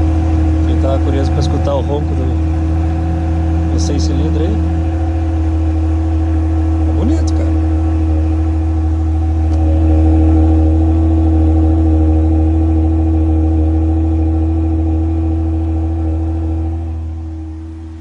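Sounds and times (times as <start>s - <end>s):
engine idling deeply: 0.0s - 18.0s.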